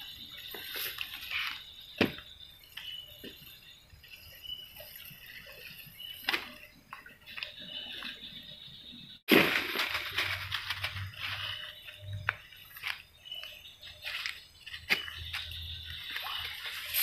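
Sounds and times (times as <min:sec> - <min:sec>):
faint high-pitched background tone: 0:00.0 - 0:17.0.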